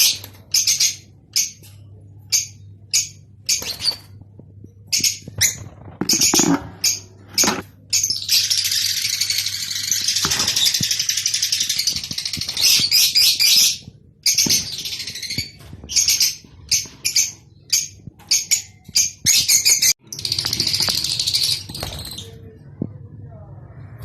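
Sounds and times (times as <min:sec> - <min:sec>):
lovebirds chattering and chirping: 0:00.0 - 0:22.6.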